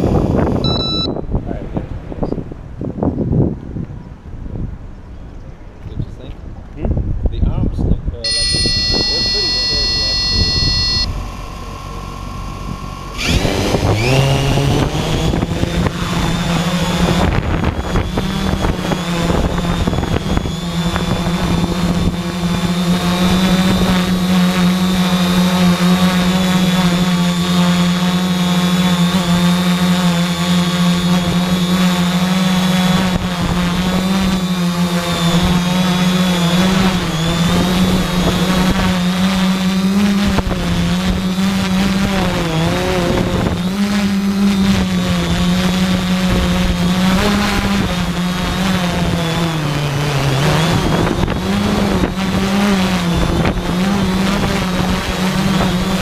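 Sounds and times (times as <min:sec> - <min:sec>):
high whine: 0:00.0 - 0:02.4, 0:08.2 - 0:56.0
quadcopter motors humming: 0:00.0 - 0:56.0.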